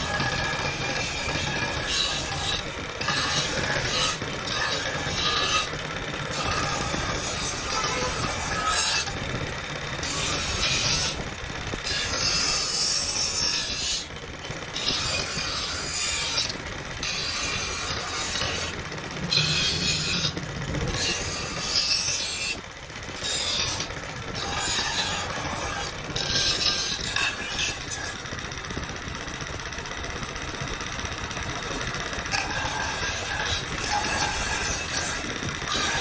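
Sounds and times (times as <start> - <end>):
file rasping on metal: 0.0 - 14.1, 14.7 - 28.3, 31.6 - 36.0.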